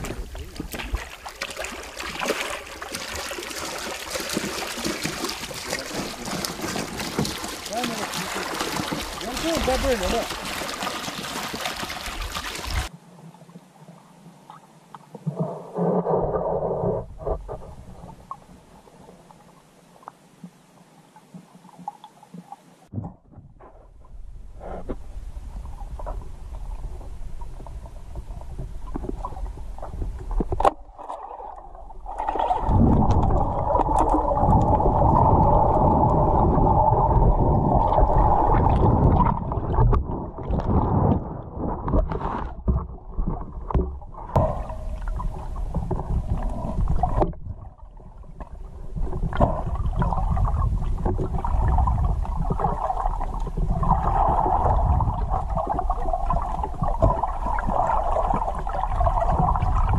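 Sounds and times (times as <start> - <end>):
underwater rumble: 0.0 - 13.3, 15.2 - 19.7, 22.9 - 59.9
water sloshing and gurgling: 0.0 - 13.3, 14.4 - 20.6, 21.2 - 59.9.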